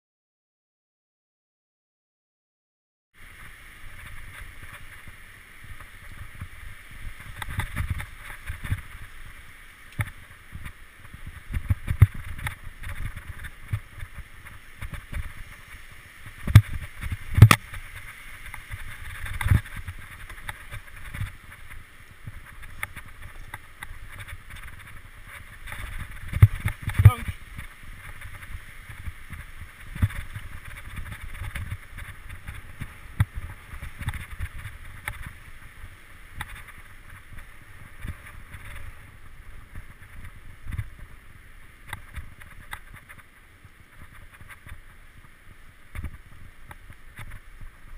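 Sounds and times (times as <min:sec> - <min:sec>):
bike tyre noise: 0:03.2 - 0:47.9.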